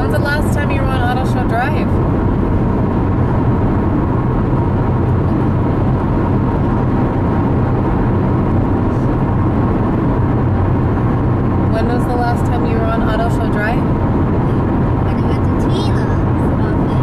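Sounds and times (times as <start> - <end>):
car road and engine drone: 0.0 - 17.0
faint steady whine: 0.0 - 17.0.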